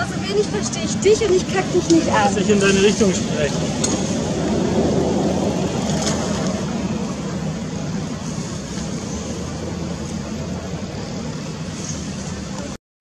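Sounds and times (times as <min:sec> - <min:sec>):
low rumble: 0:01.4 - 0:12.4.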